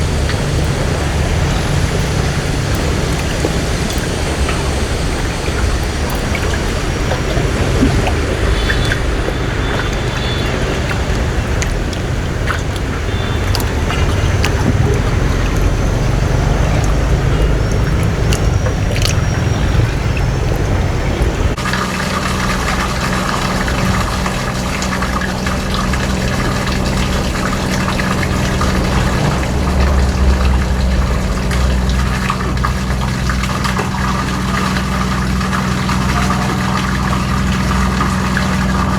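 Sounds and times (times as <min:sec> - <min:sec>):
boat engine running: 0:00.0 - 0:38.9
water rushing and splashing: 0:00.0 - 0:38.9.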